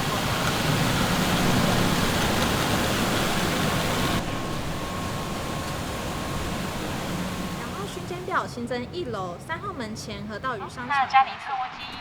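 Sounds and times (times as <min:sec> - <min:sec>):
steady background hiss: 0:00.0 - 0:10.9.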